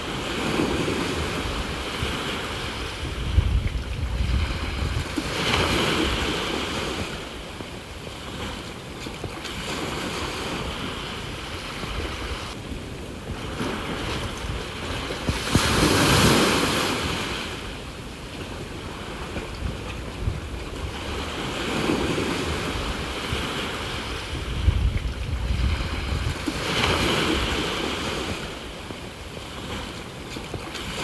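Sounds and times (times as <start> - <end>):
sea waves washing onto shore: 0.0 - 31.0
wind buffeting microphone: 0.0 - 31.0.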